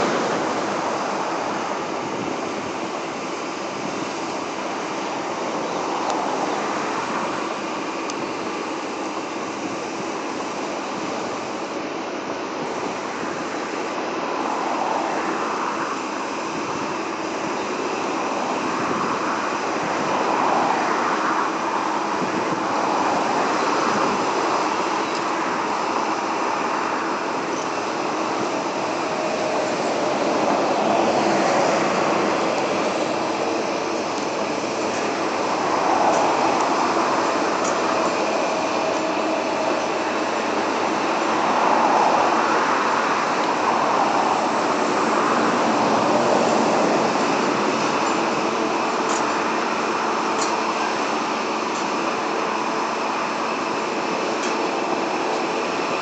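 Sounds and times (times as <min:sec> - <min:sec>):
waves washing against seawall: 0:00.0 - 0:56.0.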